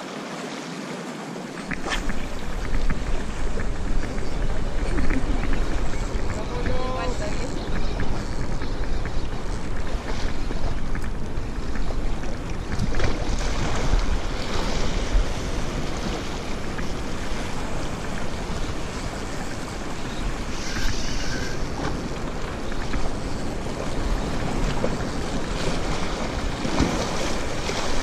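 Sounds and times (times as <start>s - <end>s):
surf washing against rocks: 0.0s - 28.0s
wind buffeting microphone: 1.5s - 28.0s.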